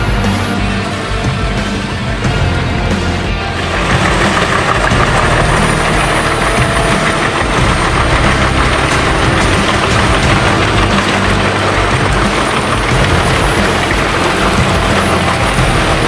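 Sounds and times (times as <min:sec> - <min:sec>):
wood chipper diesel engine running: 0:00.0 - 0:16.0.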